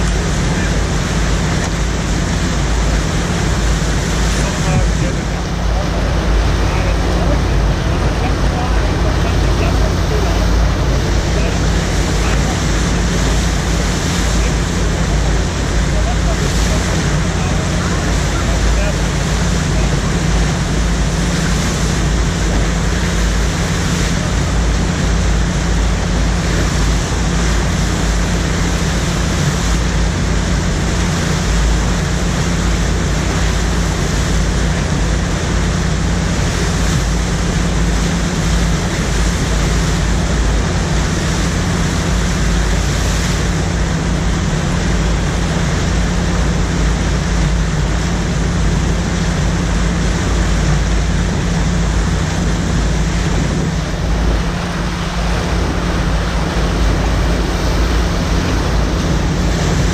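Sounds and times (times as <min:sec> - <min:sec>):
churning whitewater rushing: 0:00.0 - 0:59.9
low rumble: 0:00.0 - 0:59.9.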